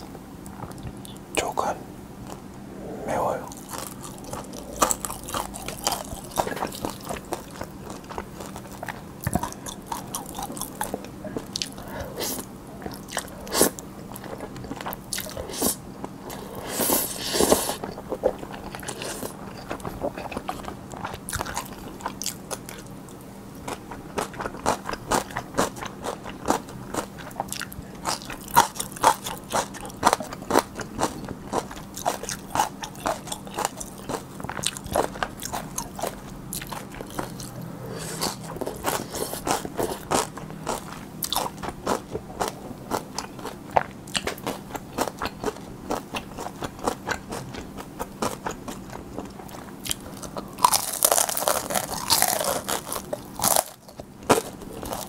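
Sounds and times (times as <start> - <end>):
chewing with wet mouth clicks: 3.5 - 16.5, 17.4 - 55.0.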